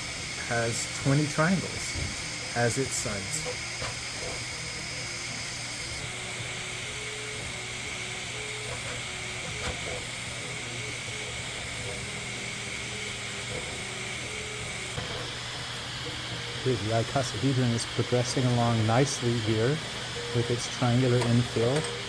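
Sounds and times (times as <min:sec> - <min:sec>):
fan hum: 0:00.0 - 0:22.0
stepper motor tones: 0:00.0 - 0:22.0.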